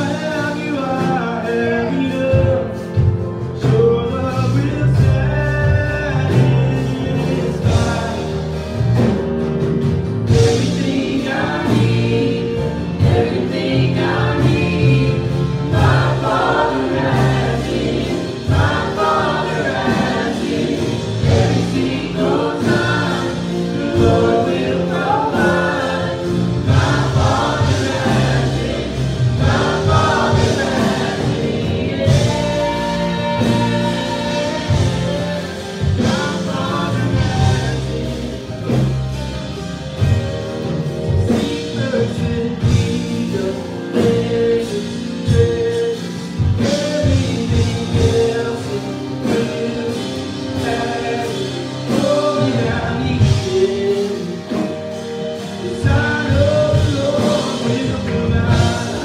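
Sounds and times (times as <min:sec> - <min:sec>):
women and man singing together: 0:00.0 - 0:09.1, 0:10.2 - 0:38.9, 0:41.1 - 0:59.0
electric bass: 0:00.0 - 0:59.0.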